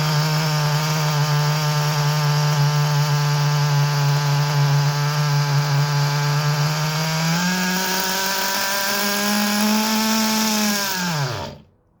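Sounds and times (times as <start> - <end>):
small nitro engine running: 0.0 - 11.6.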